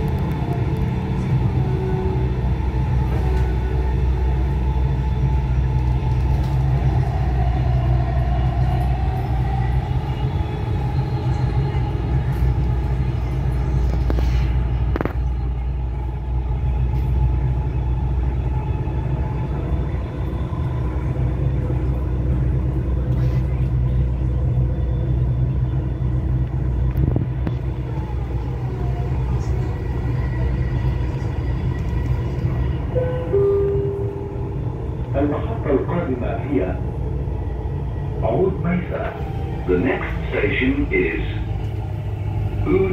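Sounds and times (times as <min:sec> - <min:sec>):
train wheels rumbling on track: 0:00.0 - 0:42.9.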